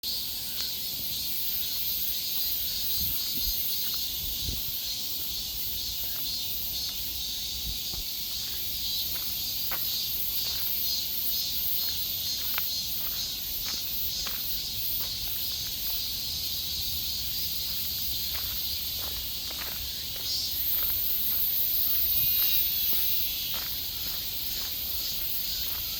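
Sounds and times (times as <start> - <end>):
chorus of insects: 0.0 - 25.9.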